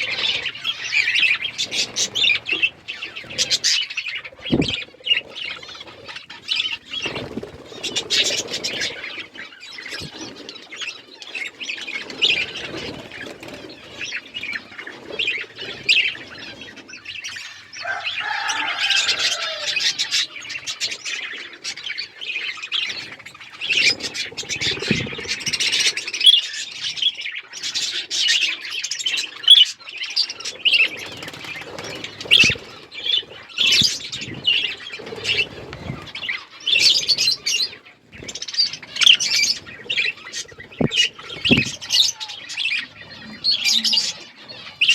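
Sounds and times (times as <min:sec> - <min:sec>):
budgerigars chirping: 0:00.0 - 0:44.9.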